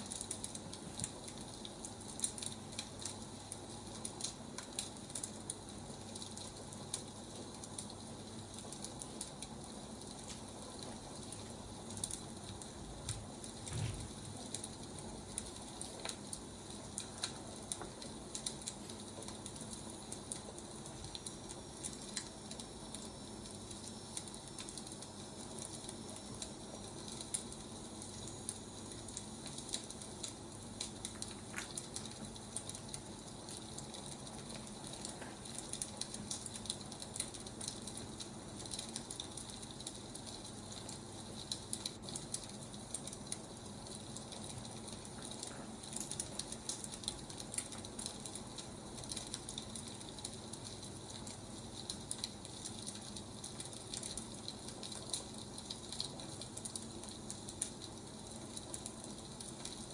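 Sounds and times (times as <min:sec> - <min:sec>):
wood fire hissing and crackling: 0:00.0 - 0:59.9.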